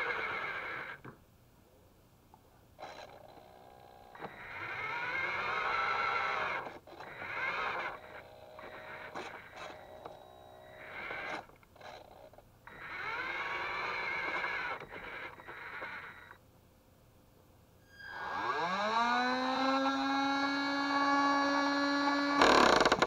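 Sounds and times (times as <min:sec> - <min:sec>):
toy electric motors whining: 0:02.8 - 0:16.4, 0:17.9 - 0:23.0.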